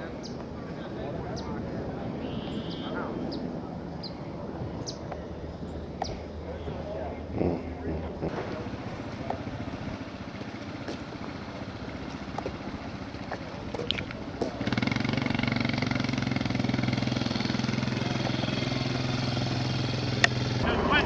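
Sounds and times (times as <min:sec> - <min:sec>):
engine rumble: 0:00.0 - 0:21.0
low pulsing engine hum: 0:00.0 - 0:21.0.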